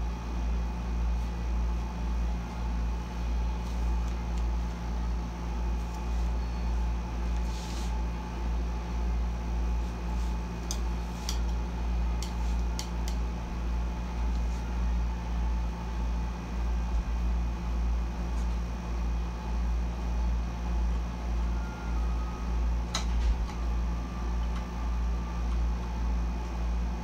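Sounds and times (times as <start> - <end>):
air conditioner humming: 0.0 - 27.0.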